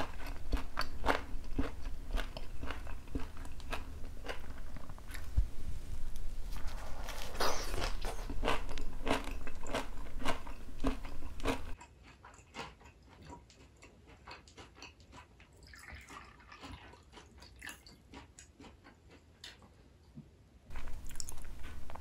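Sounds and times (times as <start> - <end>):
person chewing and crunching food: 0.0 - 20.0, 20.7 - 22.0.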